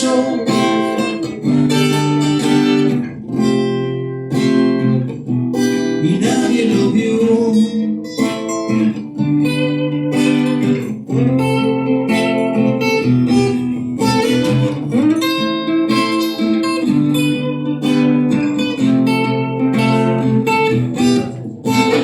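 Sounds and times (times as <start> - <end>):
blues guitars: 0.0 - 22.0.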